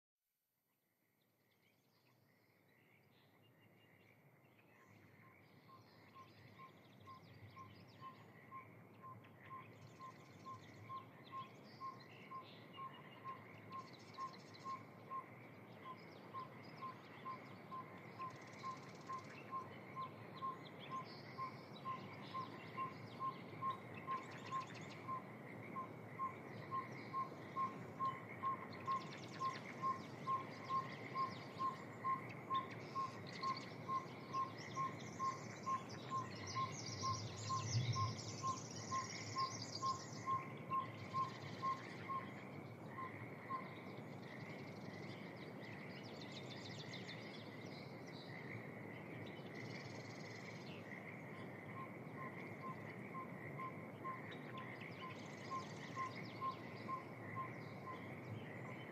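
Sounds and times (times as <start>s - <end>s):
soft steady hiss: 0.9s - 58.9s
birds chirping and trilling: 2.0s - 58.9s.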